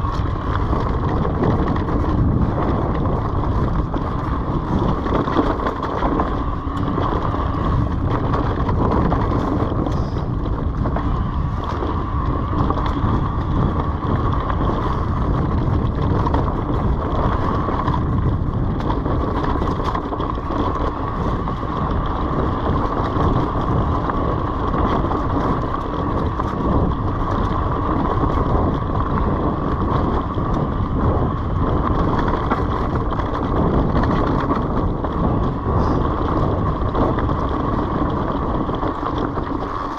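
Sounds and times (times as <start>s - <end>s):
bike rattling: 0.0s - 39.9s
tyres rumbling over leaves and dirt: 0.0s - 39.9s
wind on microphone: 0.0s - 39.9s.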